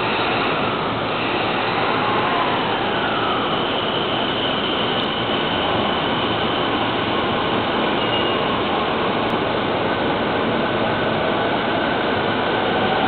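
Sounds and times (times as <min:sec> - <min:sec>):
electric train pulling out: 0:00.0 - 0:13.0.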